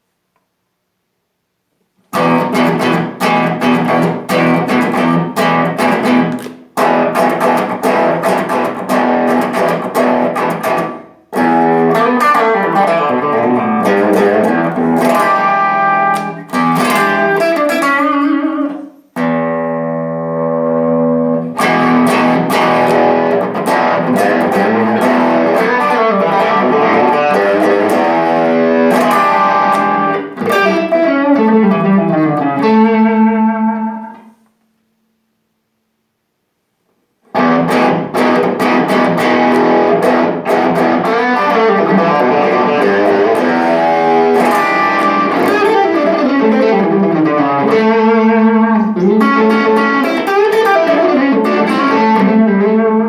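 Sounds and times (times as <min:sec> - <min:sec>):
overdriven electric guitar: 0:02.0 - 0:35.0, 0:37.2 - 0:53.0.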